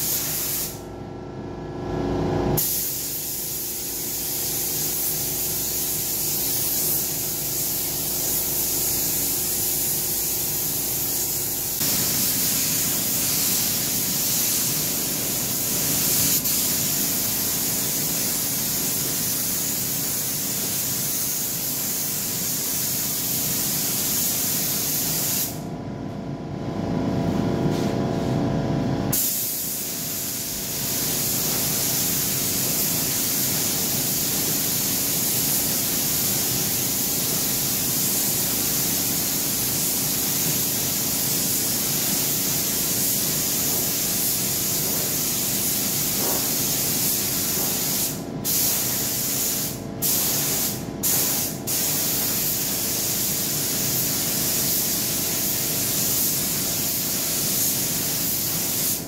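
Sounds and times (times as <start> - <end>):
spray gun air hiss: 0.0 - 0.8, 2.6 - 25.6, 29.1 - 59.0.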